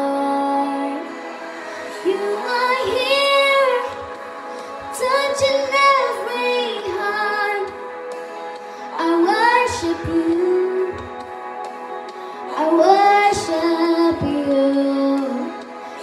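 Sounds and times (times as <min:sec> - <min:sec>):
girl singing into a microphone: 0:00.0 - 0:01.2, 0:02.0 - 0:08.0, 0:08.8 - 0:11.4, 0:12.5 - 0:16.0
sustained backing chords: 0:00.0 - 0:16.0.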